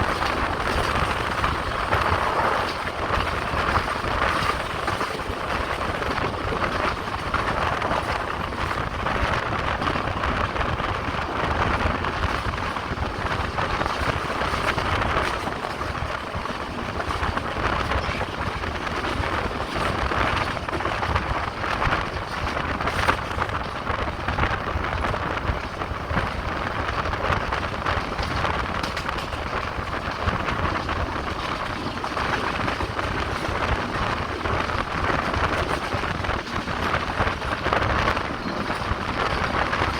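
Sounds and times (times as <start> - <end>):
train running on track: 0.0 - 39.9.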